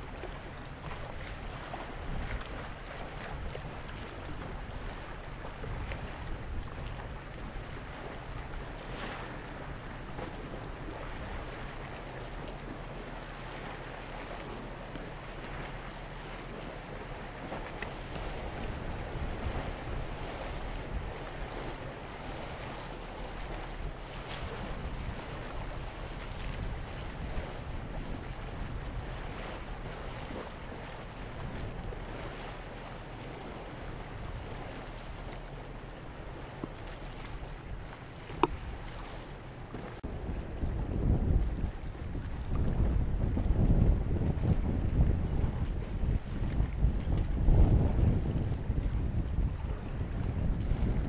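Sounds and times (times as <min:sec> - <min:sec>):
harbour water washing: 0:00.0 - 0:51.0
wind buffeting microphone: 0:00.0 - 0:51.0.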